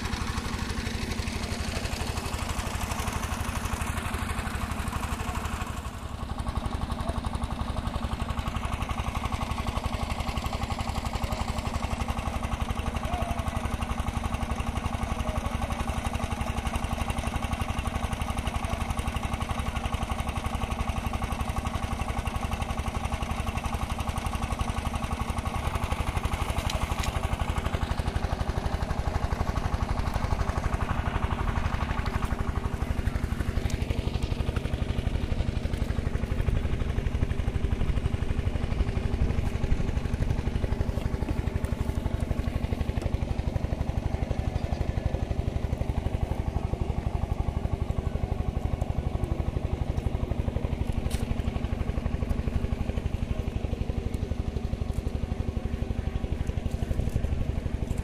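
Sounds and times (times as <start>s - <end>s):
engine running with fast throb: 0.0s - 58.0s.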